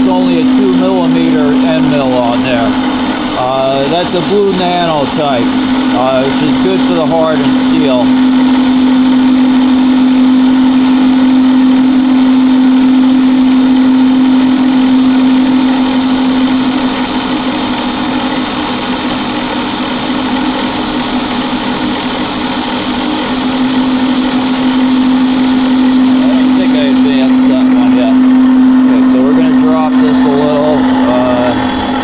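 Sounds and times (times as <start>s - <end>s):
drill press spindle humming: 0.0s - 32.0s
end mill cutting steel: 0.0s - 32.0s.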